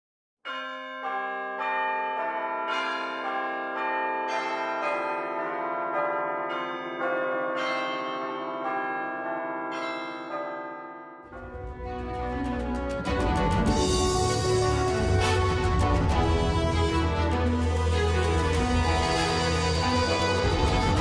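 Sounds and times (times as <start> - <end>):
bells ringing a peal: 0.5 - 11.8, 13.7 - 21.0.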